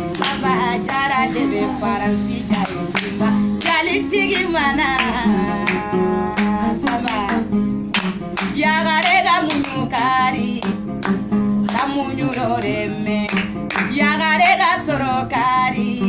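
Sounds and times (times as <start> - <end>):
hands clapping: 0.0 - 1.5, 2.3 - 14.9
acoustic guitar: 0.0 - 16.0
woman singing: 0.0 - 16.0.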